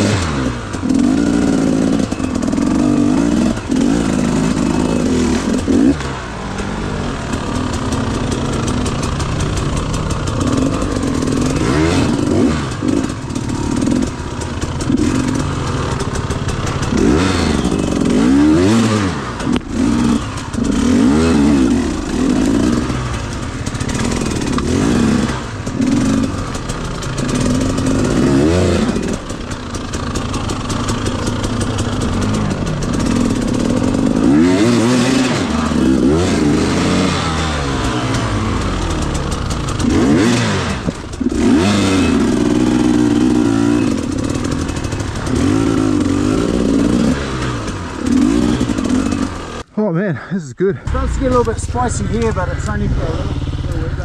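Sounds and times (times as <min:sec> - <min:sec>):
two-stroke motorcycle engine revving: 0:00.0 - 0:49.8, 0:50.8 - 0:54.0.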